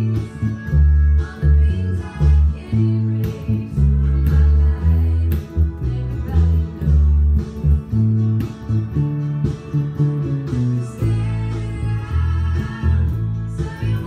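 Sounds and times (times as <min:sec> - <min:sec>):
electric bass played fingerstyle: 0:00.0 - 0:14.0.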